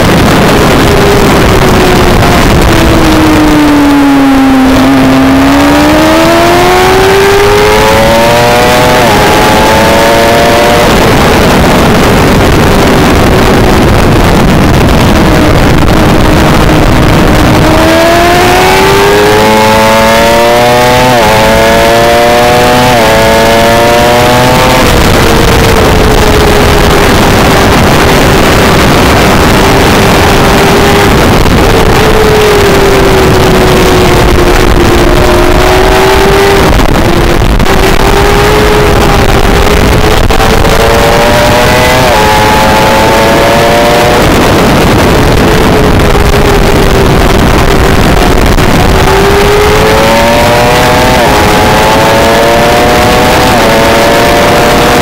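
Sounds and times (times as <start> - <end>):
motorcycle engine revving through gears: 0.0 - 55.0
wind rush on microphone: 0.0 - 55.0.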